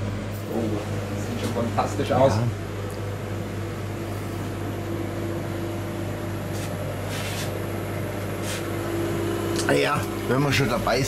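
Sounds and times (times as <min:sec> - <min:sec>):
refrigeration unit humming: 0:00.0 - 0:11.0.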